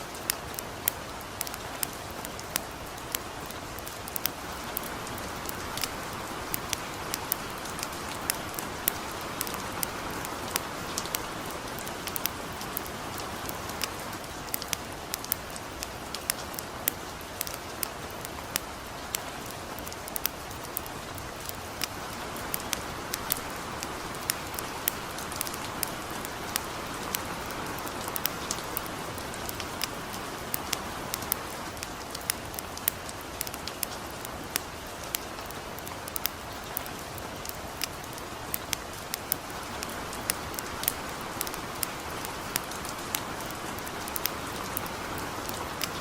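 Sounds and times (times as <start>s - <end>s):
campfire crackling and popping: 0.0s - 46.0s
light rain hiss: 0.0s - 46.0s.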